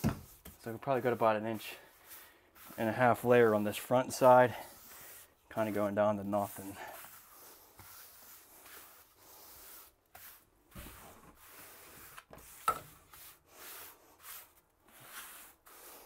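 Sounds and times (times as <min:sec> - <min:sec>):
trowel scraping wet mortar: 0:00.7 - 0:16.0.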